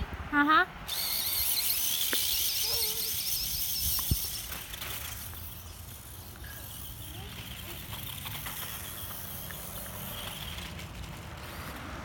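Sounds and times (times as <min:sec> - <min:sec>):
toy truck motor whining: 0:00.9 - 0:11.1.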